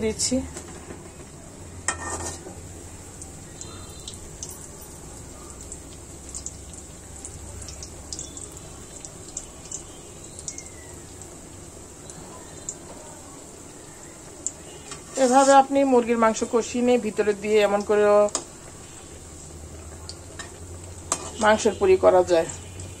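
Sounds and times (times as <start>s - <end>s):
oil sizzling in a pan: 0.0s - 23.0s.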